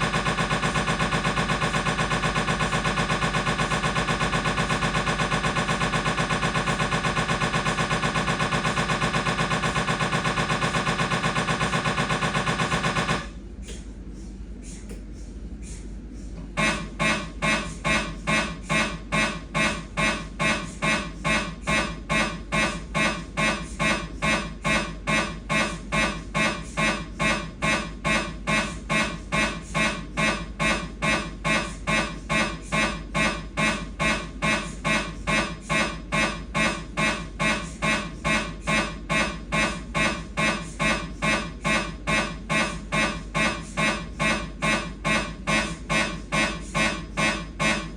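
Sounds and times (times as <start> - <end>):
mri scanner buzzing pulses: 0.0 - 13.4, 16.6 - 47.9.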